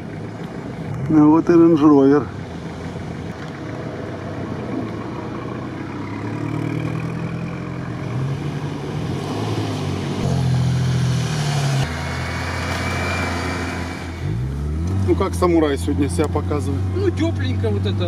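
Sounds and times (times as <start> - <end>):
off-road engines revving: 0.0 - 18.0.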